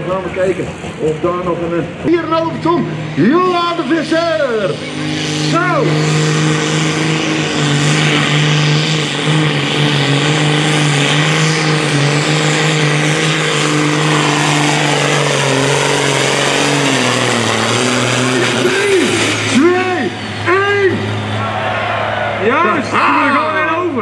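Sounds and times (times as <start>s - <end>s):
tractor diesel engine droning: 0.0s - 24.0s.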